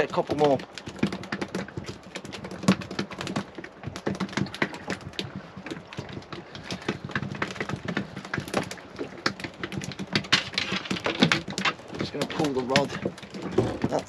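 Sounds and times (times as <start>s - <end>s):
rapid irregular clicks and knocks: 0.0s - 14.0s.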